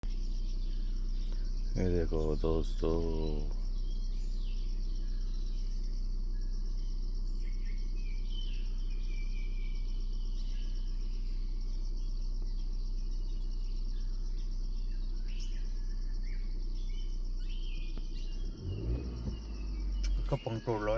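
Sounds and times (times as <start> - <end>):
bird chirps: 0.0 - 20.9
low steady rumble: 0.0 - 20.9
crickets trilling: 0.1 - 20.9.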